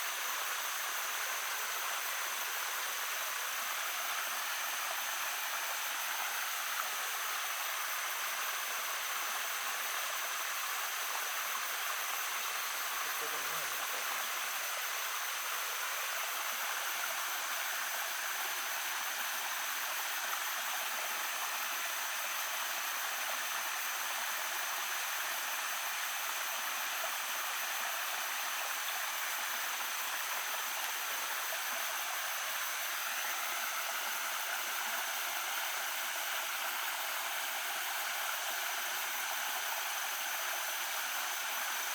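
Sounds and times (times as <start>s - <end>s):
stream babbling: 0.3s - 41.9s.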